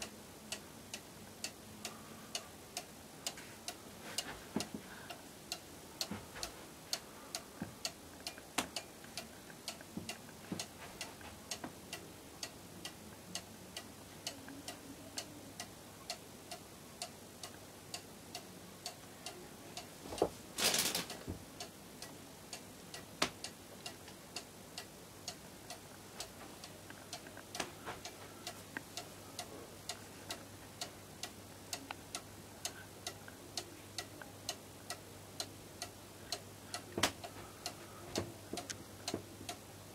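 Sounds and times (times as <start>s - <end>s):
clock ticking: 0.0s - 19.4s, 21.0s - 39.6s.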